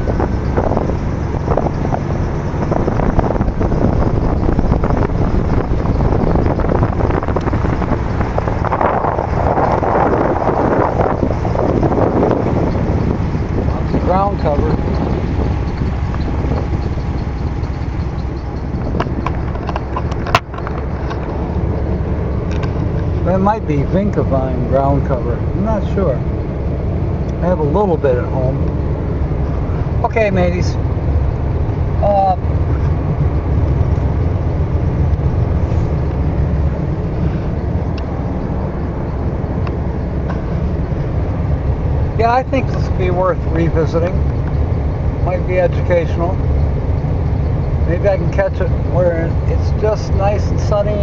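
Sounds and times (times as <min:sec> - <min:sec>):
car road and engine rumble: 0:00.0 - 0:51.0.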